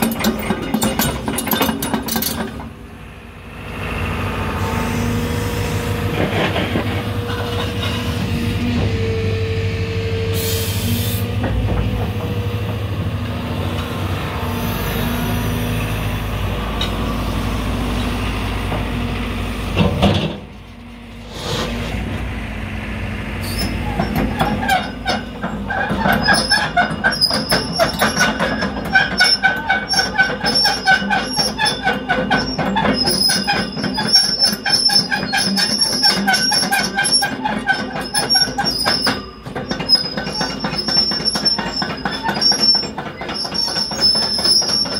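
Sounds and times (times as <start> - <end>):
steel tracks clattering and squealing: 0.0 - 2.9, 4.3 - 20.8, 23.4 - 44.9.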